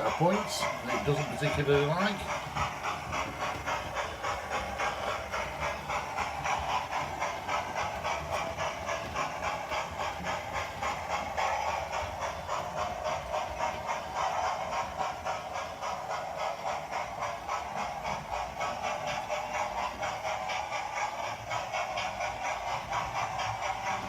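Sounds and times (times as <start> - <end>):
model steam locomotive chuffing: 0.0 - 24.0
steam hiss: 0.0 - 24.0.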